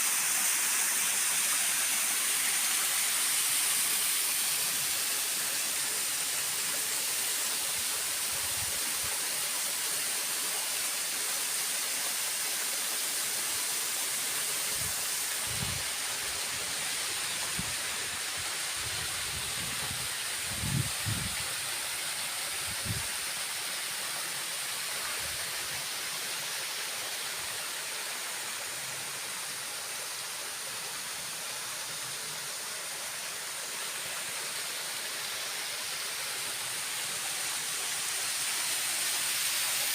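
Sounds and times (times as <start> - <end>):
waterfall rushing: 0.0 - 9.2, 13.0 - 39.9.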